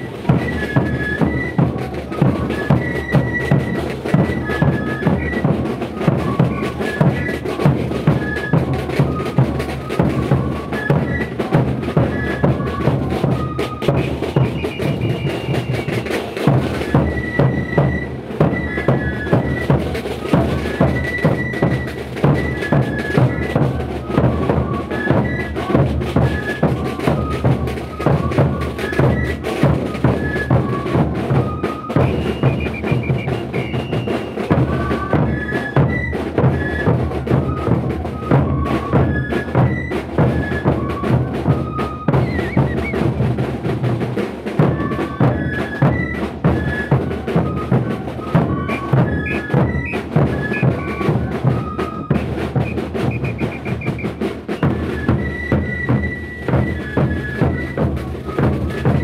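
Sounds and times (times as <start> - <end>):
large drums beating: 0.0 - 59.0
wind instruments melody: 0.0 - 59.0.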